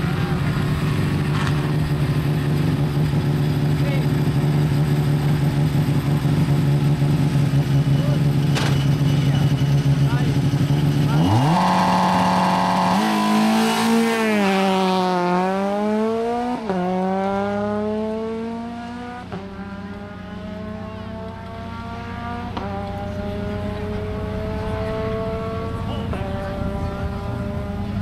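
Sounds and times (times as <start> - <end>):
car engine accelerating hard: 0.0 - 28.0.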